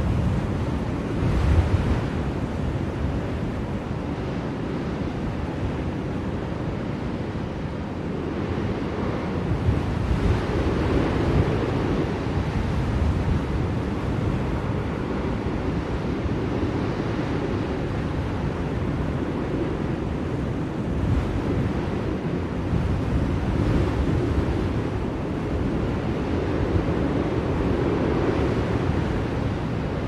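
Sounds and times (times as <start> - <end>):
blizzard wind rushing: 0.0 - 30.0.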